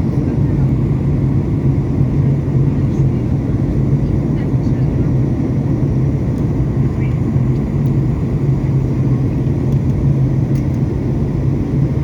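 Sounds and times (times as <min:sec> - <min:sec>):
airliner cabin jet engine drone: 0:00.0 - 0:12.0.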